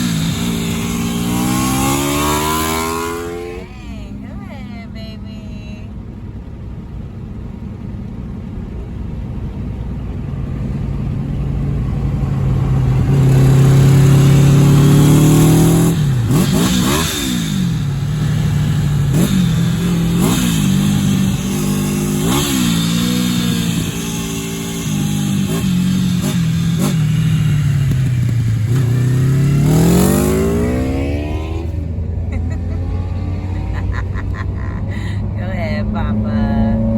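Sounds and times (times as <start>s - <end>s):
motorcycle engine revving: 0.0s - 4.2s, 10.3s - 35.1s, 35.7s - 36.9s.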